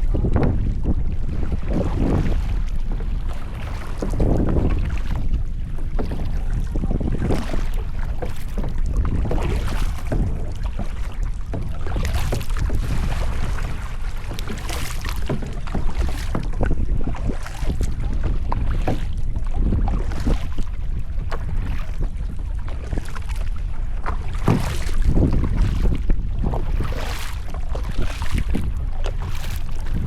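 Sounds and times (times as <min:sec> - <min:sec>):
paddle strokes splashing: 0:00.0 - 0:30.0
water clicking against hull: 0:00.0 - 0:30.0
wind rumble on microphone: 0:00.0 - 0:30.0.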